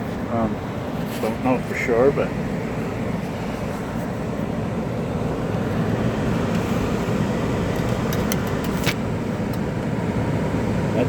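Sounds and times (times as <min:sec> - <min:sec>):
furnace blower running: 0:00.0 - 0:11.0.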